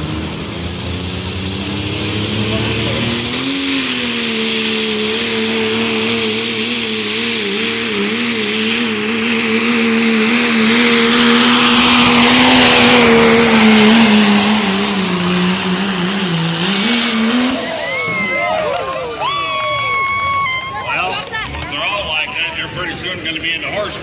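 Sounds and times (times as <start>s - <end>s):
truck engine at high revs: 0.0s - 24.0s.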